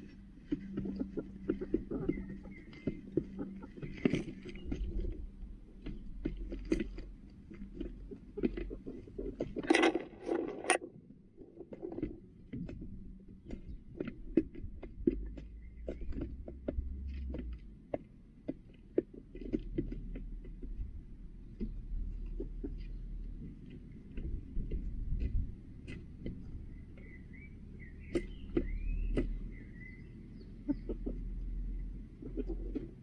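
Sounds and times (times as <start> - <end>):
hens rustling scuffle: 0.0 - 10.8, 11.4 - 33.0.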